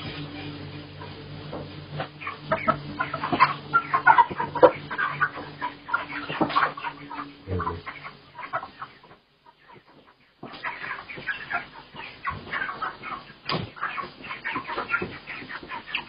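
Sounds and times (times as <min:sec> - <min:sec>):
chickens clucking and squawking: 0:00.0 - 0:16.0
steady low hum: 0:00.0 - 0:16.0.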